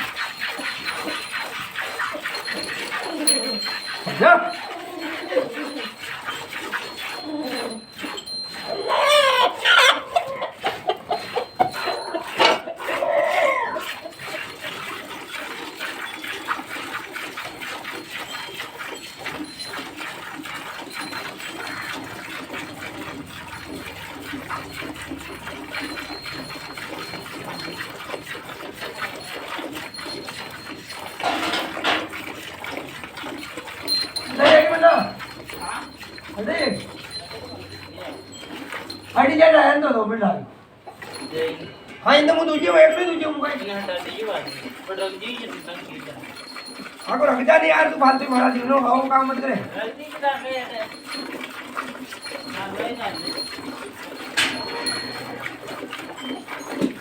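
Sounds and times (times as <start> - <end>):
farmyard animal calls: 0.0 - 39.7, 40.8 - 57.0.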